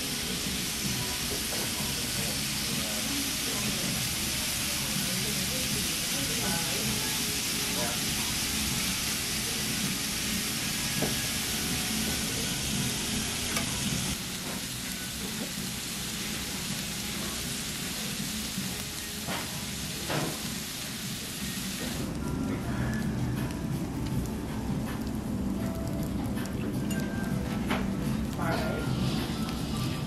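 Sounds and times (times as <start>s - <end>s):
meat sizzling on a griddle: 0.0s - 30.0s.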